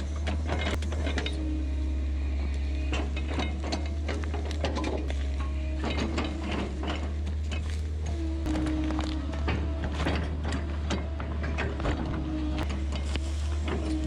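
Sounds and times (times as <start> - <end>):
heavy machinery engine hum: 0.0 - 14.0
metallic clanks and knocks: 2.4 - 14.0.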